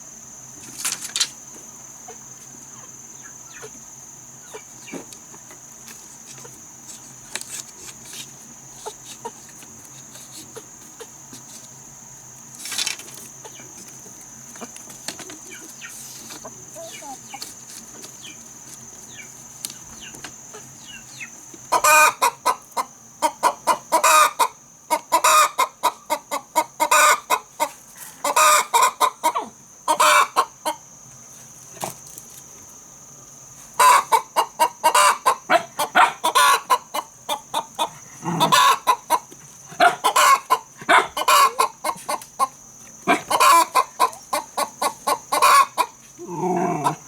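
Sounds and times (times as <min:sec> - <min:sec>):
chickens clucking: 0:01.9 - 0:11.7, 0:13.2 - 0:32.2, 0:33.6 - 0:47.0.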